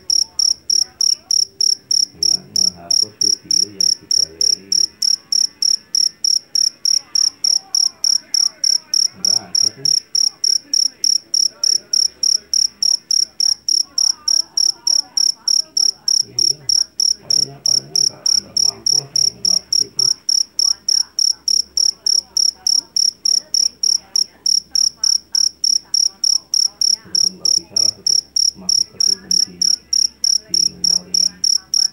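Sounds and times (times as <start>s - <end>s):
cricket chirping shrilly: 0.0s - 31.9s.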